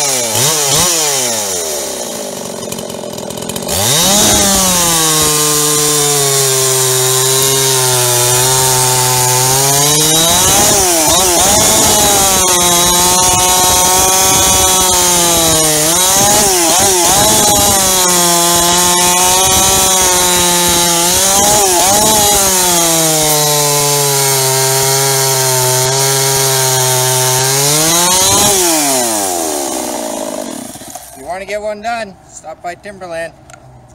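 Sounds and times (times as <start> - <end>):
chainsaw cutting through log: 0.0 - 31.6.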